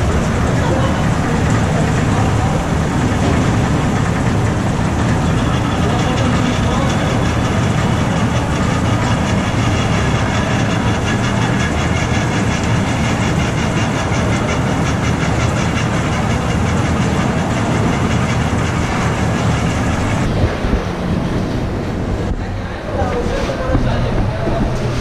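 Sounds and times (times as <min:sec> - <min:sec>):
factory machine running: 0:00.0 - 0:25.0
fast even clatter: 0:00.0 - 0:25.0.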